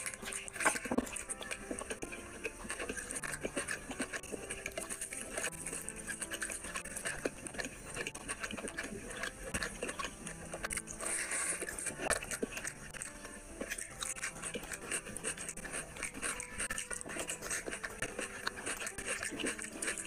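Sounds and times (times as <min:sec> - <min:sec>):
chewing and lip smacks: 0:00.0 - 0:20.0
hand squelching rice and gravy: 0:00.0 - 0:20.0.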